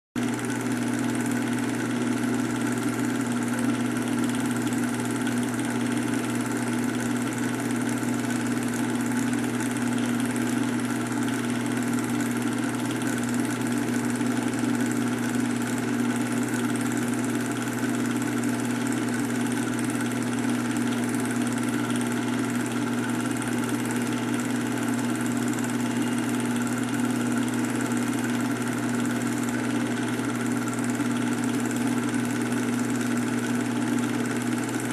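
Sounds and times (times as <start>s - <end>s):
film projector running: 0.2s - 34.9s.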